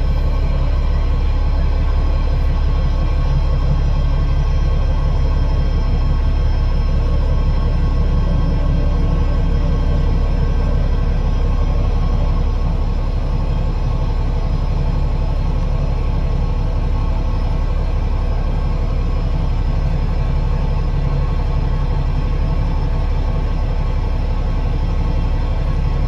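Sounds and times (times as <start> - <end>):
bus diesel engine droning: 0.0 - 26.0
steady whining tones: 0.0 - 26.0.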